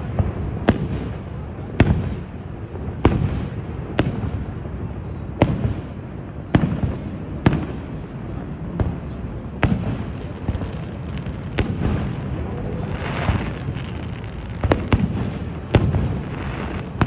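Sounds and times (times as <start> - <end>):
fireworks bangs: 0.0 - 17.0
steady low rumble: 0.0 - 17.0.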